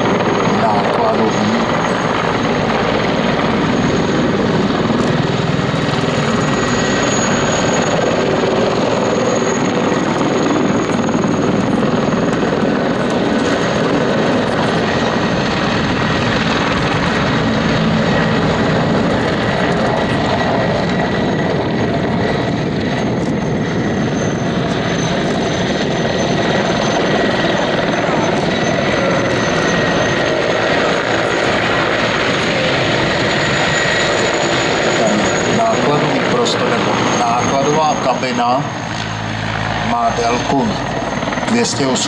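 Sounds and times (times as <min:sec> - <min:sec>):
helicopter rotor noise: 0:00.0 - 0:42.0
high turbine whine: 0:00.0 - 0:42.0.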